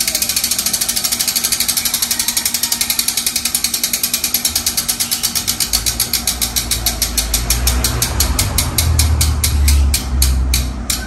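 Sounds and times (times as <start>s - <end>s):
bike hub ratcheting clicks: 0.0s - 11.0s.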